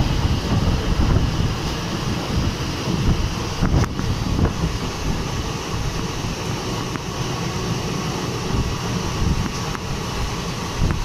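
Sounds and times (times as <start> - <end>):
train rumbling at speed: 0.0 - 11.0
wind buffeting microphone: 0.0 - 11.0.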